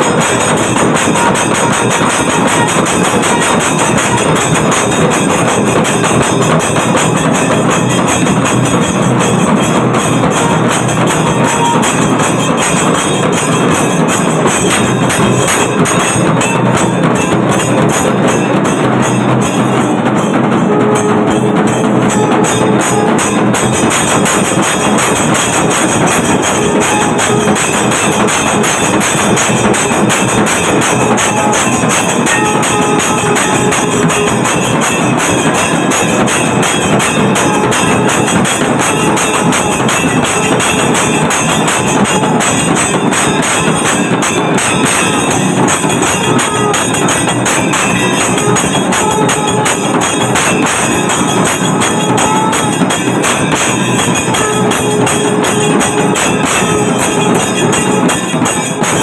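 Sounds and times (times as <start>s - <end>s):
temple percussion ensemble: 0.0s - 59.0s.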